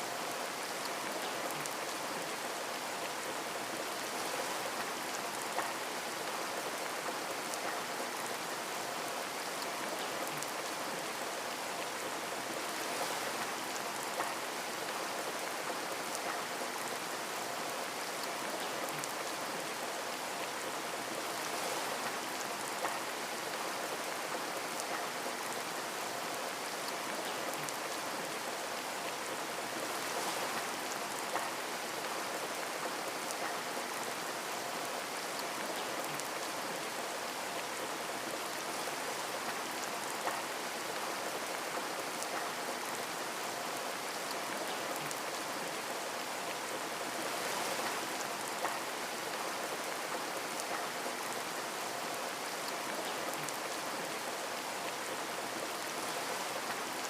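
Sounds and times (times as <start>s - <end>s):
rain pattering on a window: 0.1s - 57.0s.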